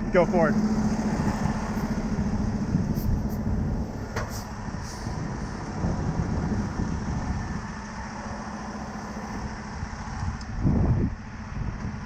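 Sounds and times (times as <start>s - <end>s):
truck engine idling: 0.0s - 10.4s.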